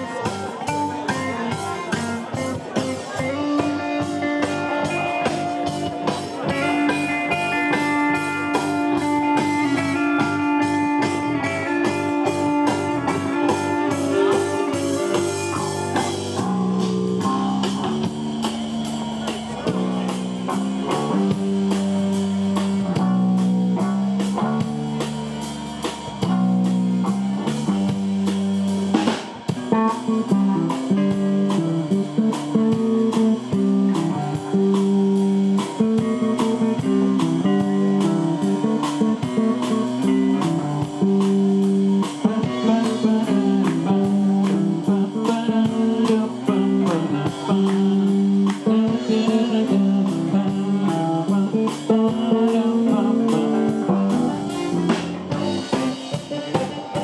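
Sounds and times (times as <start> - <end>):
bass: 0.0 - 57.0
drums: 0.0 - 57.0
electric guitar: 0.0 - 57.0.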